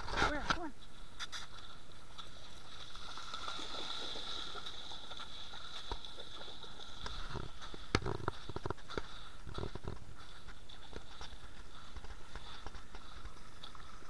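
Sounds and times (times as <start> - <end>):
footsteps on wet gravel: 0.0 - 14.0
river water splashing: 1.6 - 14.0.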